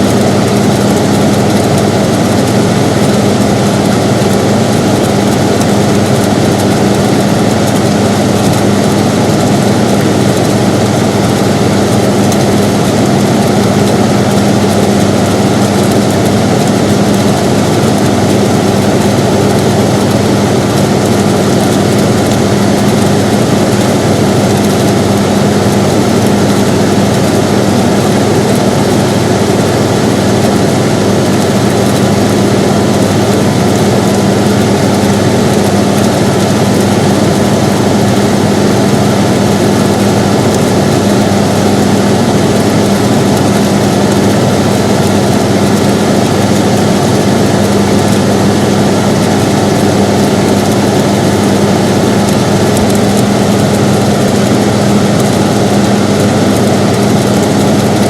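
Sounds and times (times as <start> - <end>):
air conditioner fan whoosh: 0.0 - 58.0.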